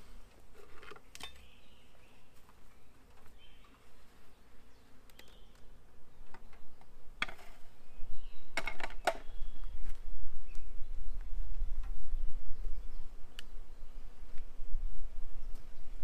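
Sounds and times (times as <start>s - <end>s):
bees buzzing faintly: 0.0s - 16.0s.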